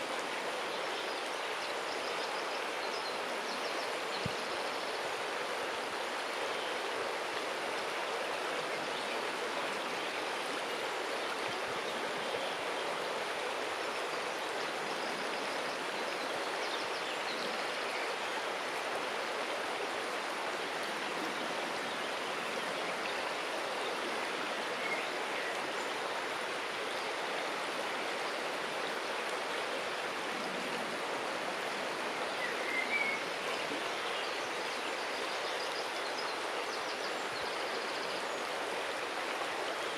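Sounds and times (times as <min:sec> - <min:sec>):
river water flowing around stone: 0:00.0 - 0:39.9.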